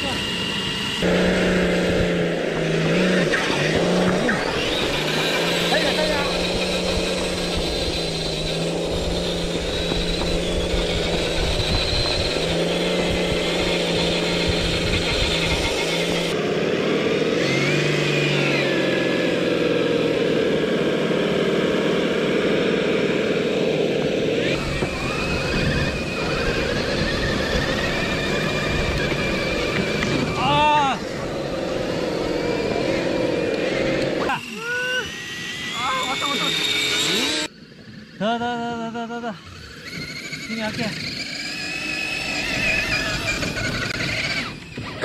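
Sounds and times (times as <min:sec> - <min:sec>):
electric motors whining: 0:00.0 - 0:45.0.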